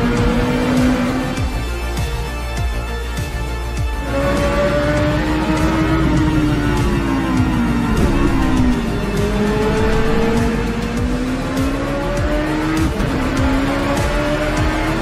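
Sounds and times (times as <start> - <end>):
car engine accelerating hard: 0.0 - 1.6, 3.9 - 15.0
background music: 0.0 - 15.0.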